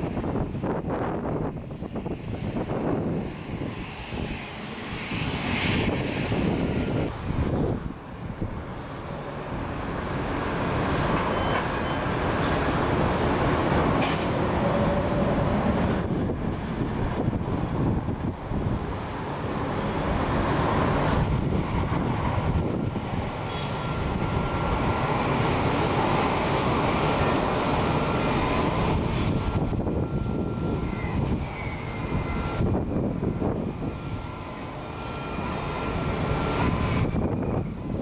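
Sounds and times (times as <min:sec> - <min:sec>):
jet airliner engines running: 0:00.0 - 0:38.0.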